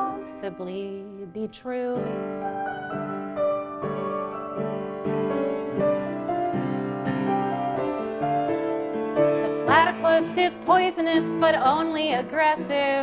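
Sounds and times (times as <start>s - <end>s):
upright piano chords: 0.0s - 13.0s.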